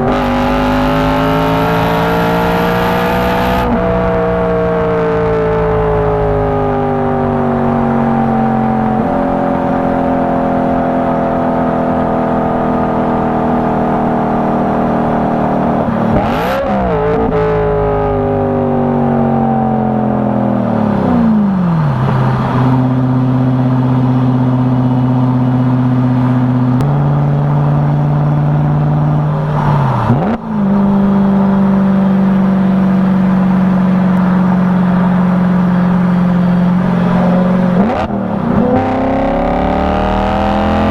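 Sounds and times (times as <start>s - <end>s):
loud car engine through exhaust: 0.0s - 40.9s.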